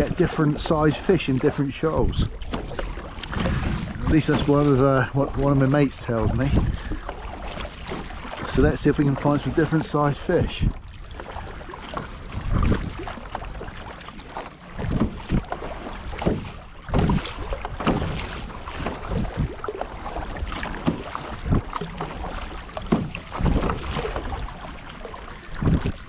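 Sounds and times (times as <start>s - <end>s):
paddle splashing: 0.0s - 26.0s
water slapping hull: 0.0s - 26.0s
wind buffeting microphone: 0.0s - 26.0s.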